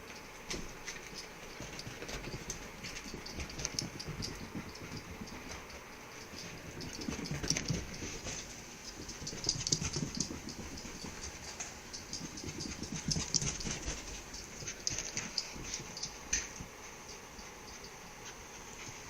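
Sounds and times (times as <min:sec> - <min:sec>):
dog and cat scuffling: 0:00.1 - 0:19.0.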